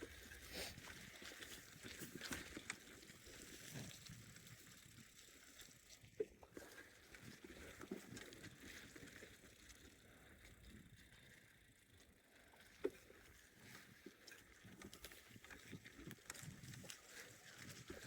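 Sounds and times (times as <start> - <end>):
bicycle tyres on forest track: 0.0 - 18.0.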